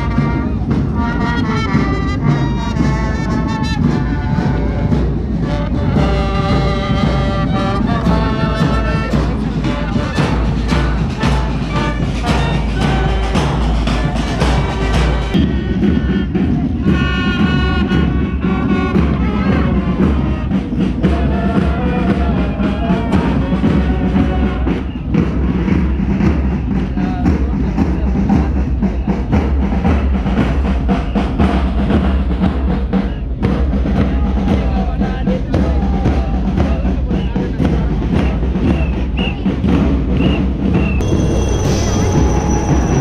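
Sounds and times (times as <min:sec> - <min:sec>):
bass drums and side drums beating: 0:00.0 - 0:43.0
marching band playing: 0:00.0 - 0:43.0.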